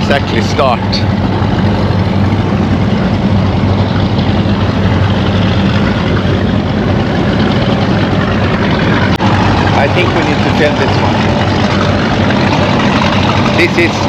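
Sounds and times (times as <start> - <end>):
motorboat engines humming: 0.0 - 14.0.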